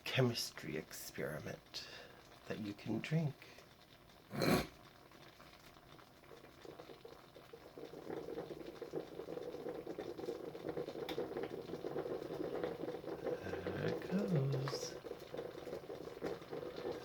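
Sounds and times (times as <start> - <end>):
coffee maker bubbling and gurgling: 0.0 - 17.0.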